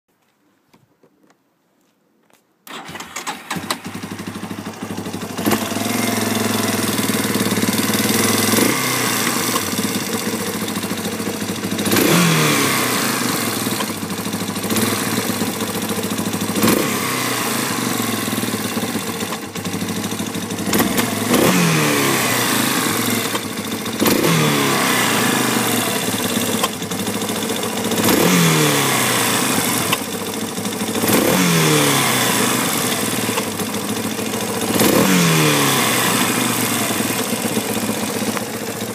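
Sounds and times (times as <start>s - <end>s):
atv engine starting and idling: 2.6s - 38.9s.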